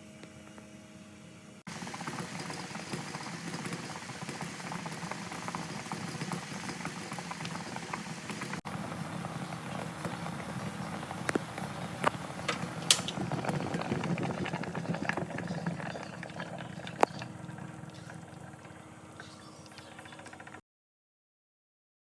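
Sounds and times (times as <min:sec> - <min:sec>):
water boiling in a steamer: 0:01.7 - 0:20.6.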